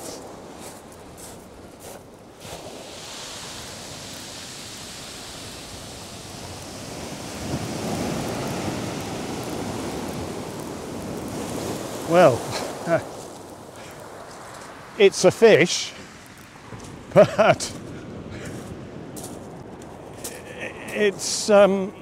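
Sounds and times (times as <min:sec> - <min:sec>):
surf on shingle beach: 0:00.0 - 0:22.0
wave crashing: 0:02.4 - 0:22.0.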